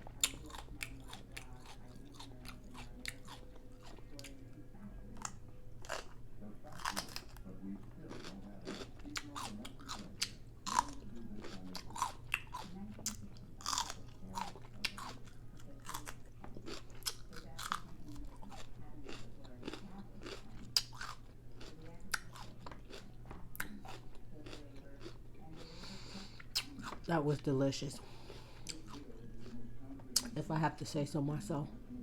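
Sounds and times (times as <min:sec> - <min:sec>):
chewing crunchy taco: 0:00.0 - 0:27.1, 0:28.0 - 0:30.4.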